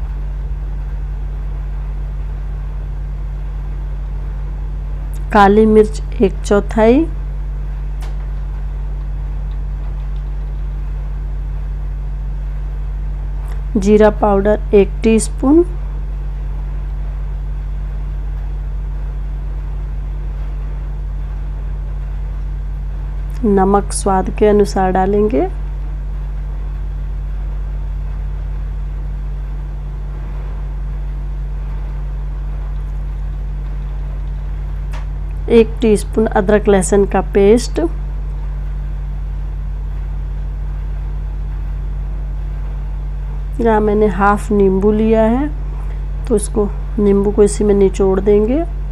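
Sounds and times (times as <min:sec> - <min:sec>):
low background hum: 0:00.0 - 0:48.9.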